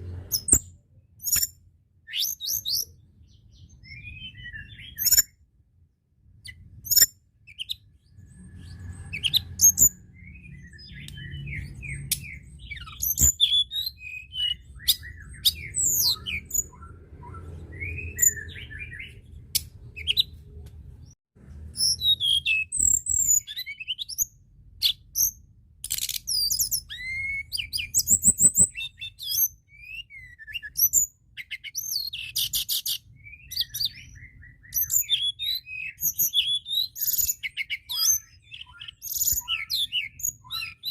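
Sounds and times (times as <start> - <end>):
bird singing high chirps and trills: 0.0 - 40.9.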